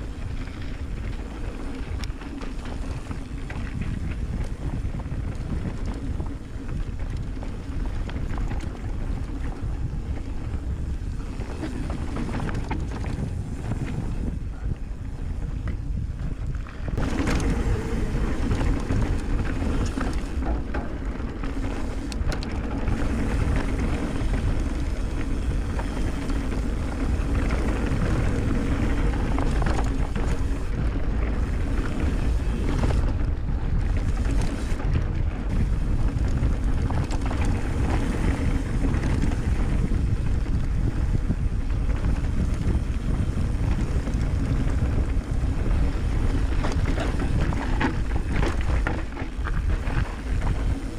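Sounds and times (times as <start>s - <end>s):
bike tyres rolling on trail: 0.0s - 50.9s
wind buffeting microphone: 0.0s - 50.9s.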